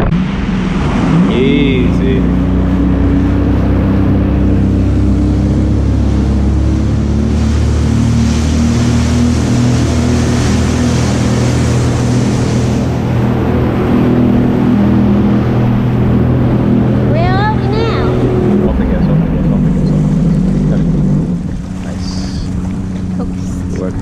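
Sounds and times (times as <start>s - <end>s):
jet ski engine running: 0.0s - 24.0s
rushing water and wind: 0.0s - 24.0s.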